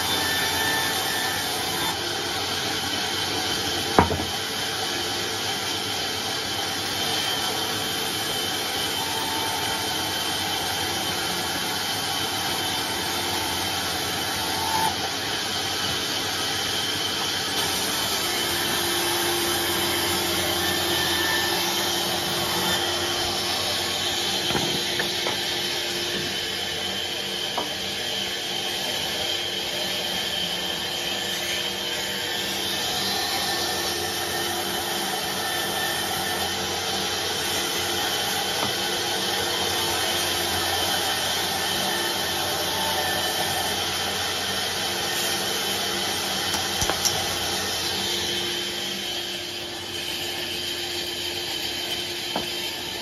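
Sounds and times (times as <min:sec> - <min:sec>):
band saw whining: 0:00.0 - 0:53.0.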